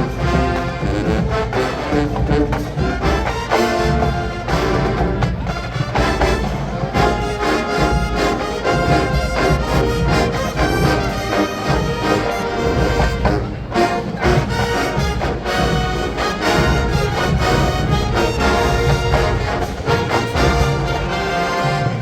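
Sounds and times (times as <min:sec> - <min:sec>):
brass: 0:00.0 - 0:22.0
drumline percussion: 0:00.0 - 0:22.0
marching band playing funk: 0:00.0 - 0:22.0.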